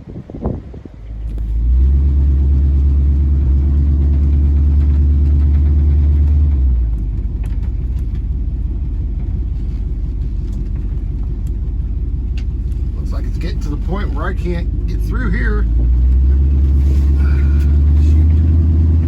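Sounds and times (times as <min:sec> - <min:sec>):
pickup engine droning: 0:00.0 - 0:19.0.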